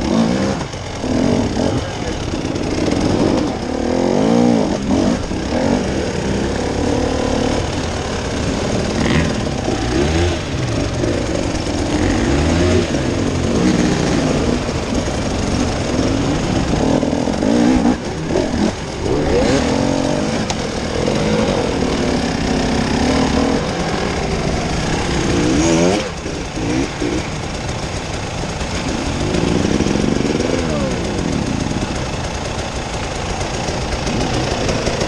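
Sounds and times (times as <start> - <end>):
off-road vehicle engine revving: 0.0 - 35.0
rough rattling running noise: 0.0 - 35.0.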